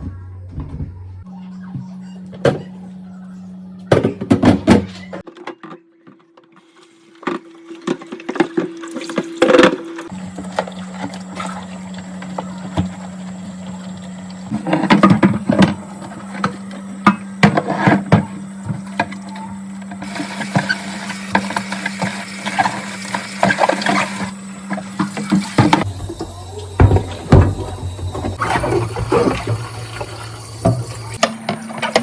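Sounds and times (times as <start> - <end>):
items clattering and knocking: 3.9 - 6.6, 7.2 - 32.0.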